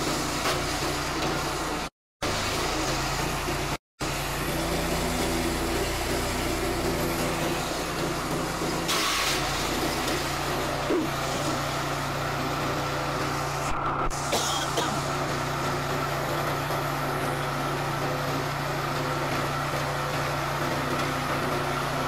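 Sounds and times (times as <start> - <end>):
small petrol engine running: 0.0 - 13.6, 14.6 - 22.0.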